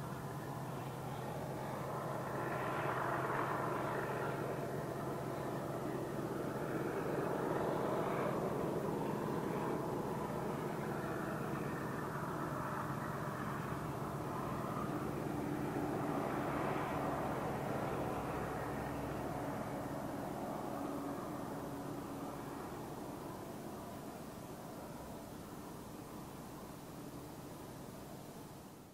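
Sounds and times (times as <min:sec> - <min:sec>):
diesel locomotive engine droning: 0:00.0 - 0:28.8.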